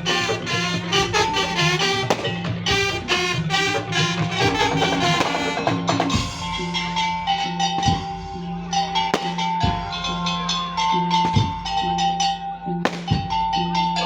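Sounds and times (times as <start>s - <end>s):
drums: 0.0s - 12.2s, 12.8s - 13.8s
held melodic notes: 0.0s - 14.0s
wooden percussion strikes: 0.0s - 14.0s.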